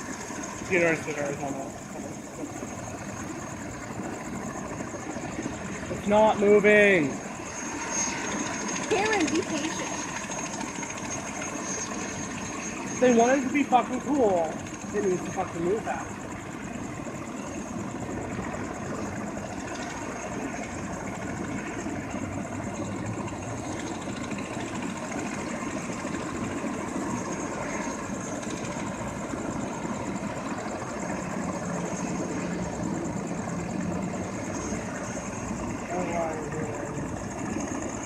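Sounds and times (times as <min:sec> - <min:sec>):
helicopter idling: 0:00.0 - 0:38.0.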